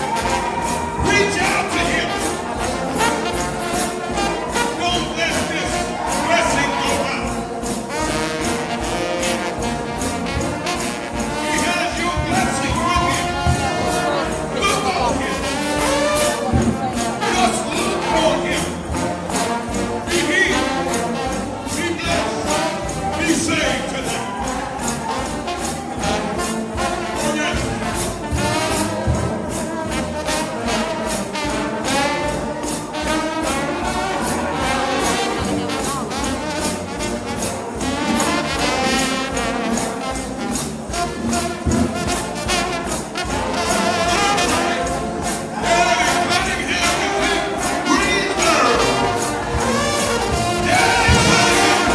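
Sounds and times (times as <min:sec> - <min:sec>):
drum and cymbal beat: 0:00.0 - 0:51.9
trombones with vibrato: 0:00.0 - 0:51.9.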